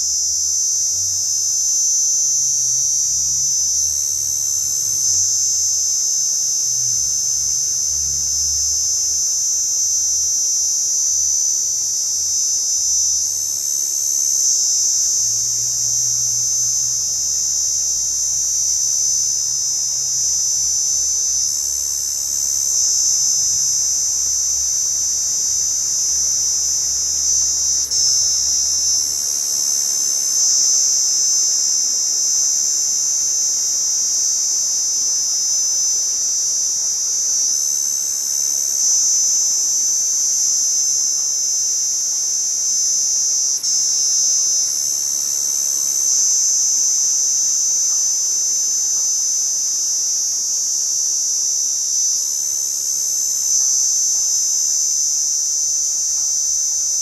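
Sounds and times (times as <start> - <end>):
cicada buzzing: 0.0 - 57.0.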